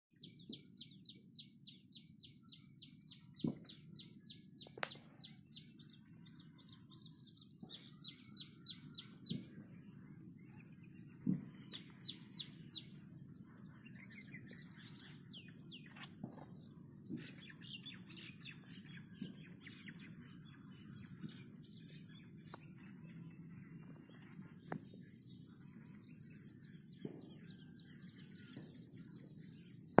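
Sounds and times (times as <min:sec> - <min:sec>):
birds chirping and calling: 0:02.6 - 0:30.0.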